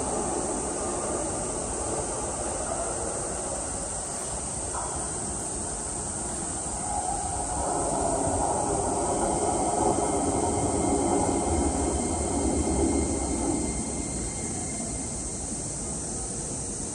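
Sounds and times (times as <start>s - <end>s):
electric train rumbling: 0.0s - 16.9s.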